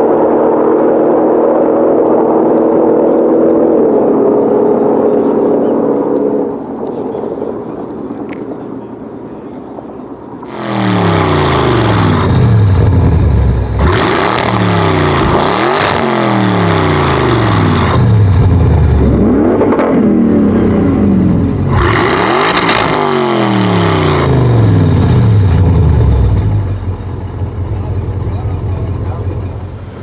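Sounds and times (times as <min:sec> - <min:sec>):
car engine passing at full throttle: 0:00.0 - 0:08.1, 0:10.4 - 0:30.0.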